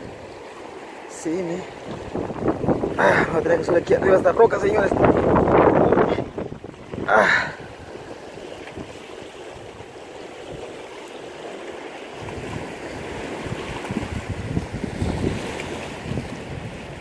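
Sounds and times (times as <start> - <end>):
wind buffeting the microphone: 1.7 - 10.8, 12.1 - 17.0.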